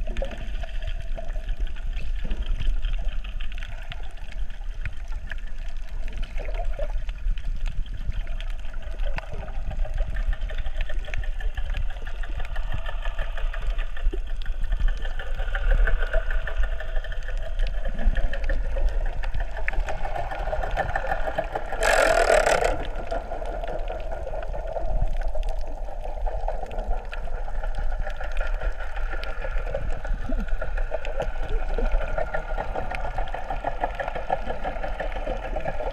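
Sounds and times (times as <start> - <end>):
muffled underwater mechanical drone: 0.0 - 35.9.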